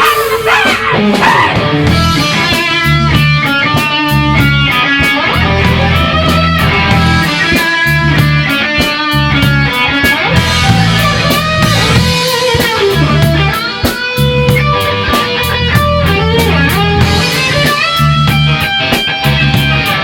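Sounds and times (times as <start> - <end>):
pulsing bass: 0.0 - 13.6, 14.2 - 19.9
drum kit cymbal beat: 0.0 - 20.0
electric guitar with bent notes: 0.0 - 20.0.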